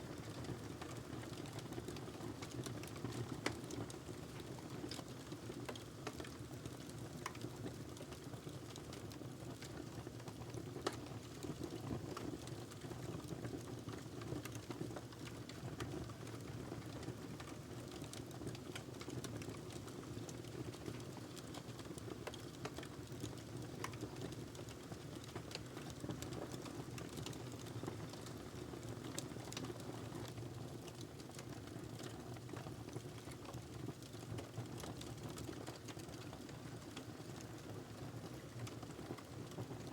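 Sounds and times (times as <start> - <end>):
wood fire crackling and popping: 0.1 - 39.9.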